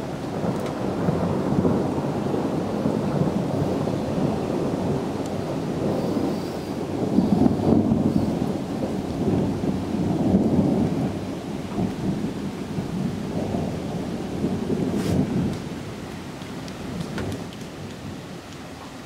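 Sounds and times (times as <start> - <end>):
rolling thunder: 0.0 - 18.4.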